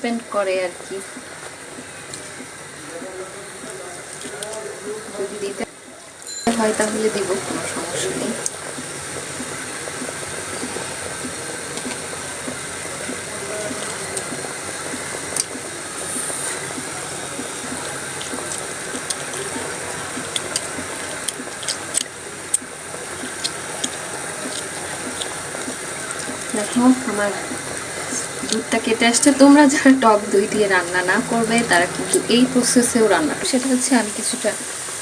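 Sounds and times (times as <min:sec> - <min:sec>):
chicken sizzling in a pot: 0:00.0 - 0:35.0.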